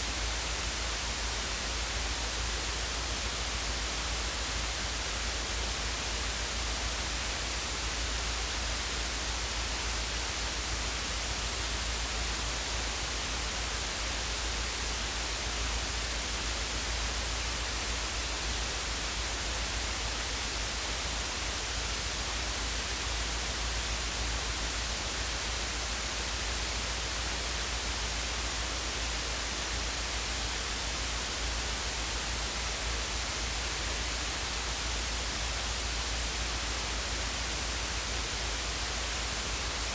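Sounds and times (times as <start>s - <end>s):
static-like hiss: 0.0s - 39.9s.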